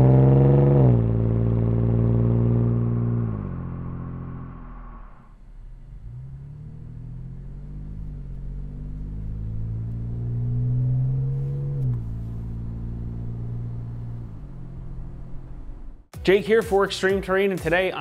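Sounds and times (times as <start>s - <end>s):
car engine accelerating: 0.0s - 16.1s.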